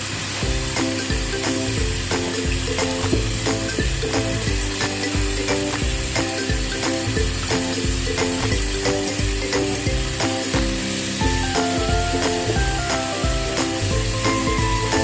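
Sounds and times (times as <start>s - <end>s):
food sizzling in a pan: 0.0s - 15.0s
music with a steady beat: 0.4s - 15.0s.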